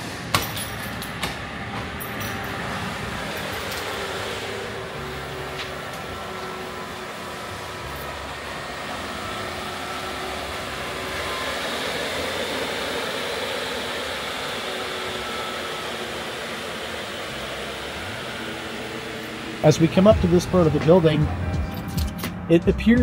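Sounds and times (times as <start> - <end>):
ventilator fans rushing hum: 0.0 - 23.0.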